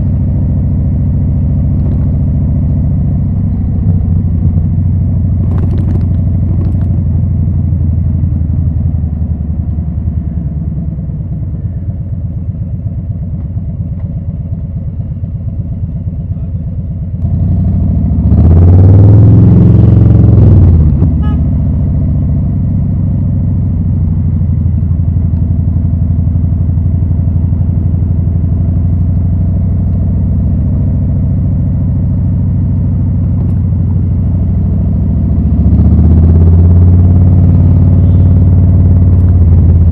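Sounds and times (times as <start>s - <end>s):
motorcycle engine revving: 0.0s - 12.9s, 17.2s - 39.9s.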